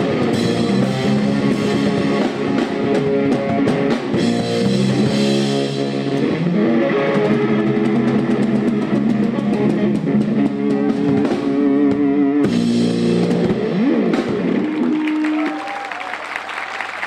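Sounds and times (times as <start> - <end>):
drum kit playing rock: 0.0 - 15.3
electric guitar: 0.0 - 16.0.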